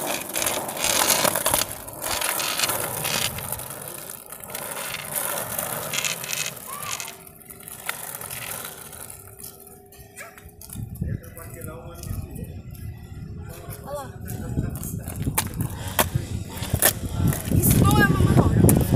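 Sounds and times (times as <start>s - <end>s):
skateboard wheels rolling on concrete: 0.0s - 18.9s.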